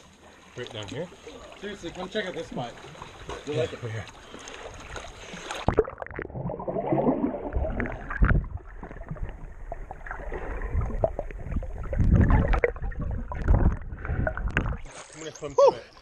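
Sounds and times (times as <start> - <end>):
water sloshing and splashing: 0.0 - 15.1.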